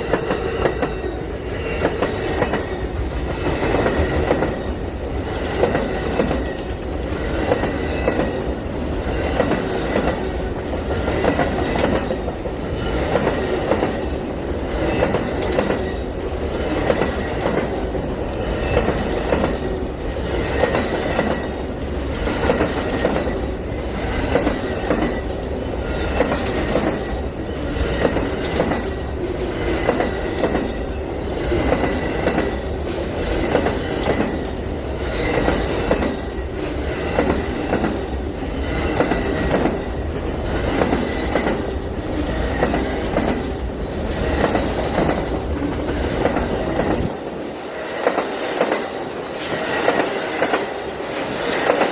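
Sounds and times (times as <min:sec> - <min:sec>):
train wheels clicking over rail joints: 0:00.0 - 0:14.1, 0:14.8 - 0:51.9
train rumble: 0:00.0 - 0:51.9.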